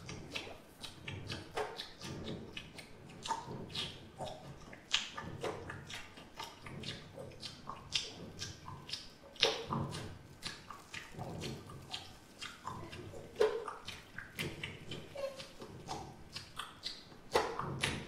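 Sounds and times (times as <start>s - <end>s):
grunting mouth noises: 0.0s - 18.0s
wet mouth smacks and clicks: 0.1s - 12.8s, 13.4s - 18.0s.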